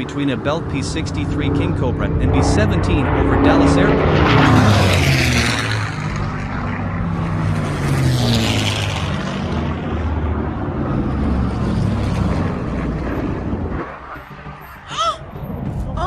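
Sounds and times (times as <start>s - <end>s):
propeller aircraft droning overhead: 0.0s - 16.0s.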